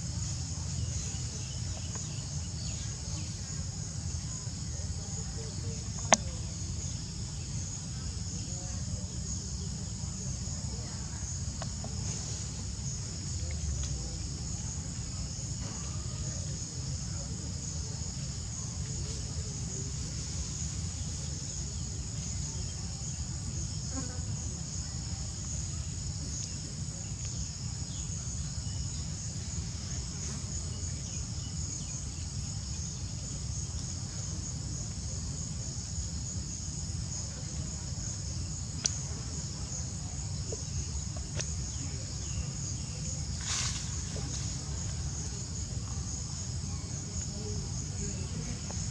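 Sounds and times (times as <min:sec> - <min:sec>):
insects singing: 0:00.0 - 0:48.9.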